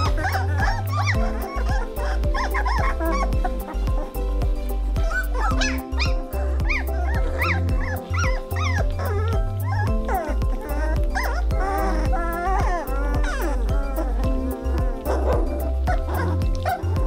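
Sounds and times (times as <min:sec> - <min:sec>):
background music with steady beat: 0:00.0 - 0:17.0
puppies squealing and yipping: 0:00.0 - 0:17.0.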